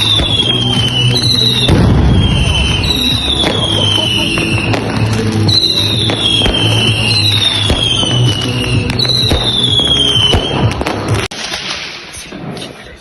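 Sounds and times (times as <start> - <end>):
firework whistles falling in pitch: 0.0 - 10.8
background music: 0.0 - 11.6
firecrackers cracking and banging: 0.0 - 13.0.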